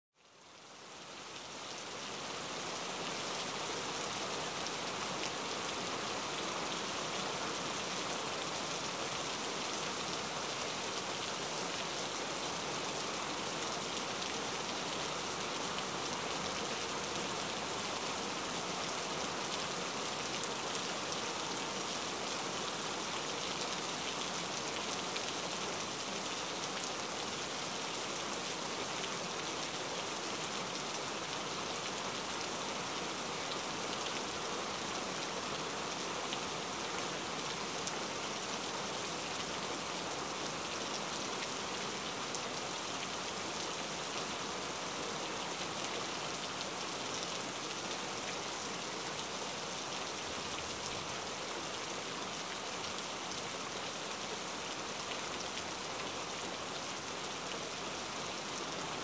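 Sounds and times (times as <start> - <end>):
heavy rain: 0.2 - 59.0.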